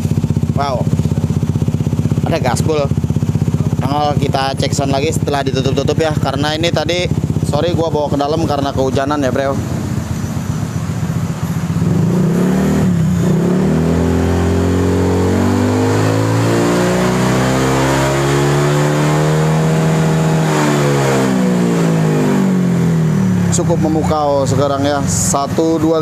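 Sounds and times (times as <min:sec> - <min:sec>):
scooter engine revving: 0:00.0 - 0:26.0.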